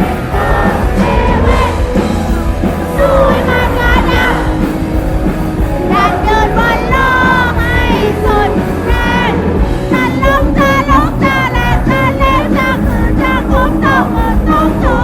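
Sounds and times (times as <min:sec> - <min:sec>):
lead singer's voice: 0:00.0 - 0:15.0
rock band playing live: 0:00.0 - 0:15.0.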